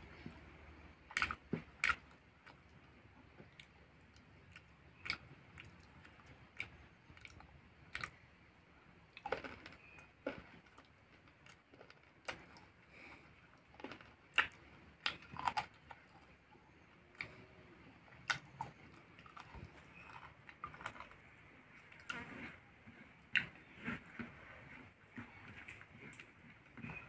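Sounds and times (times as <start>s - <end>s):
person chewing food: 1.0s - 8.3s, 9.0s - 27.0s.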